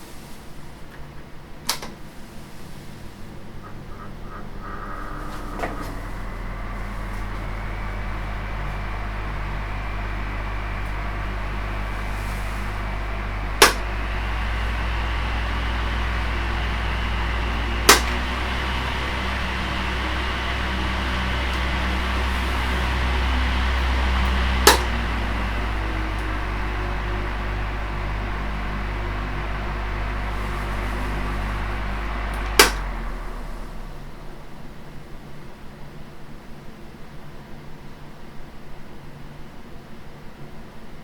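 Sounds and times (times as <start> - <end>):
electric fan humming: 0.0 - 36.0.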